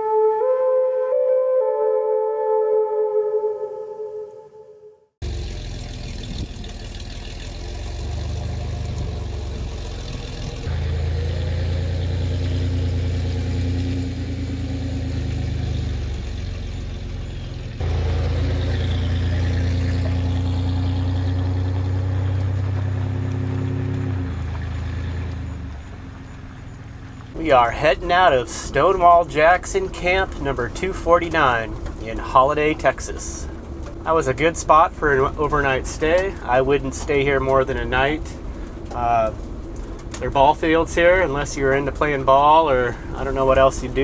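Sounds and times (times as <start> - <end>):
van engine running: 5.2 - 44.0.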